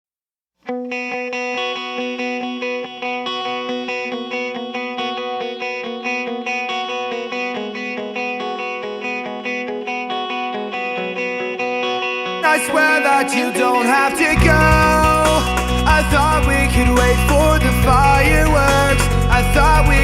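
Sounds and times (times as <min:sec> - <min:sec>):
picked guitar music: 0:00.6 - 0:20.0.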